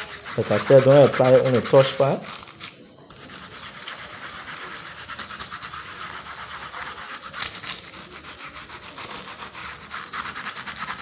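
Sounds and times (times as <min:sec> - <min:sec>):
paintbrush scrubbing plastic: 0:00.0 - 0:11.0
sharp scrape: 0:00.0 - 0:11.0.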